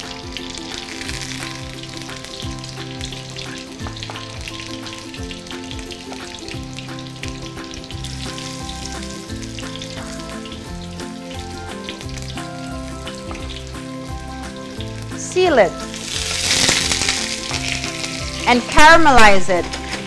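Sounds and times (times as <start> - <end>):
background music with beat: 0.0 - 18.6
food sizzling in butter: 0.0 - 20.0.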